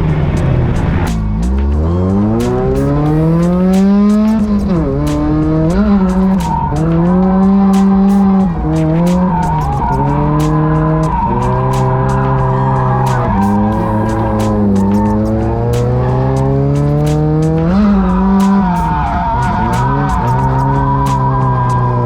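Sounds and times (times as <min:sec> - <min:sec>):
car engine revving hard: 0:00.0 - 0:22.0
tyre squeal and skidding: 0:00.0 - 0:22.0.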